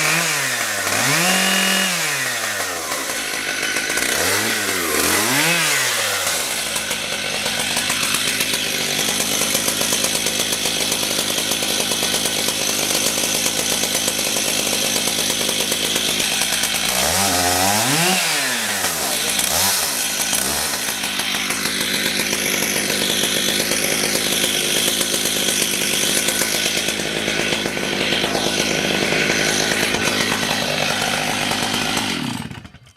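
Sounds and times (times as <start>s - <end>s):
chainsaw engine revving: 0.0s - 32.9s.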